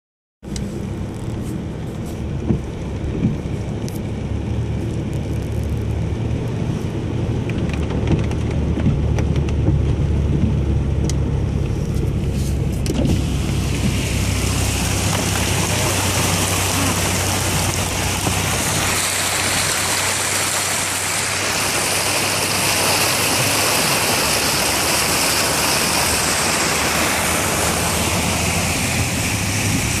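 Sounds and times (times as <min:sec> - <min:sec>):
car engine running low: 0:00.4 - 0:30.0
water rushing against car body: 0:00.6 - 0:30.0.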